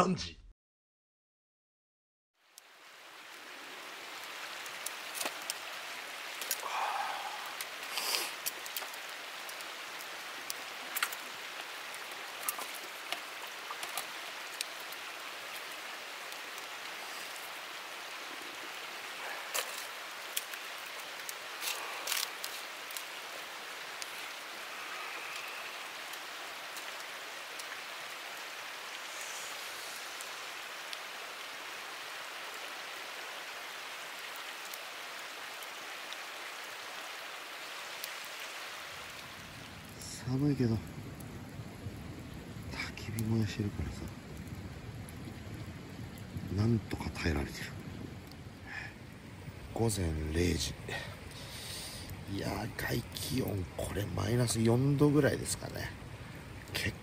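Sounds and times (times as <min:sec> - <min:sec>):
campfire crackling: 0:02.4 - 0:57.0
fire hissing: 0:02.6 - 0:34.9, 0:38.0 - 0:57.0.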